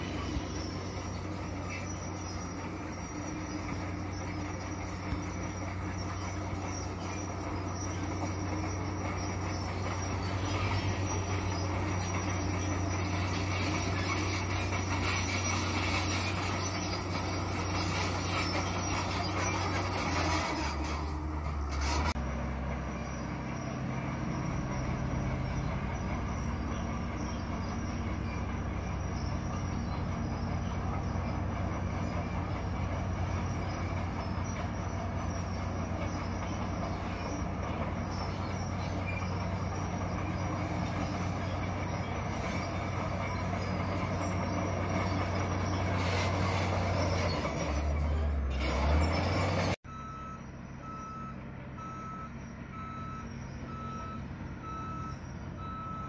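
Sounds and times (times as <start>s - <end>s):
bulldozer diesel engine: 0.0s - 56.0s
steel tracks squealing and clanking: 0.0s - 56.0s.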